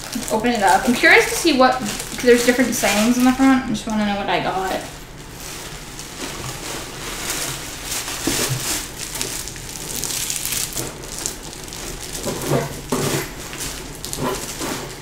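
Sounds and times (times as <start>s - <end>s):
fabric bag rustling: 0.0s - 15.0s
plastic packaging crinkling: 0.0s - 15.0s.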